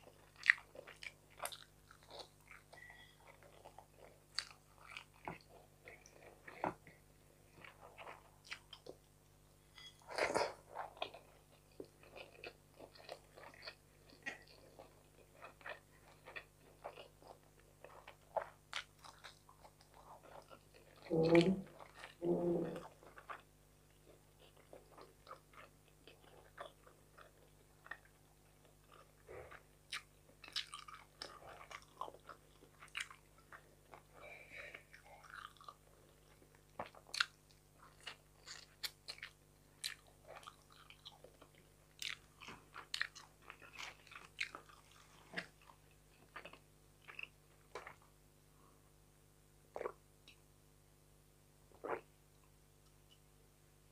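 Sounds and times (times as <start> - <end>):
chewing and crunching: 0.0 - 9.1, 9.8 - 22.2, 22.8 - 48.1.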